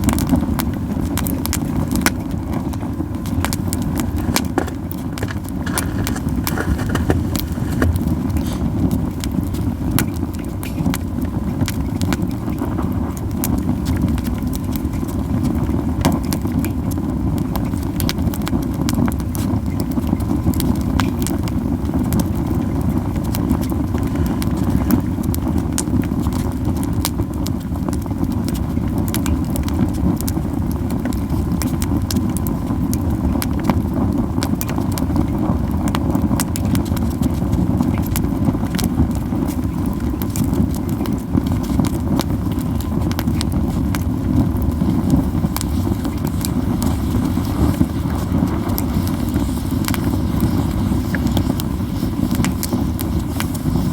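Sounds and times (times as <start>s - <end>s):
low fire rumble: 0.0s - 53.9s
campfire crackling and popping: 0.2s - 12.6s, 13.3s - 53.9s.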